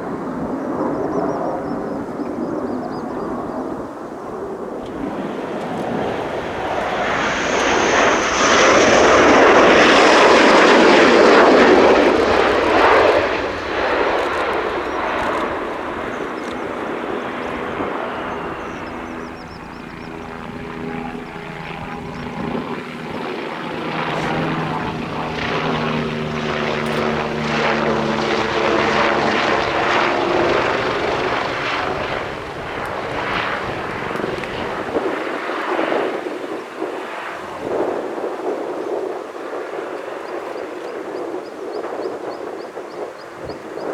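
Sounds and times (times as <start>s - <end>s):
jet aircraft roar: 0.0s - 43.9s
jet engine whine: 0.0s - 43.9s.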